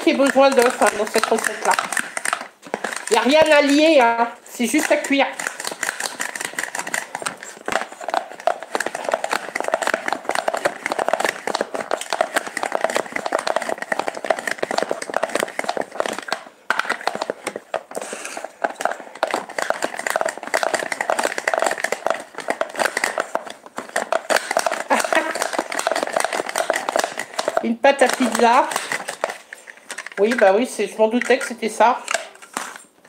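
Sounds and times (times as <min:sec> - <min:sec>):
plastic grater rasping: 0:00.0 - 0:32.9.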